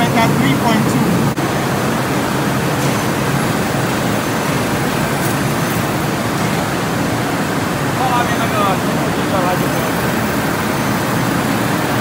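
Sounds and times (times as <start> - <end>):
factory machinery drone: 0.0 - 12.0.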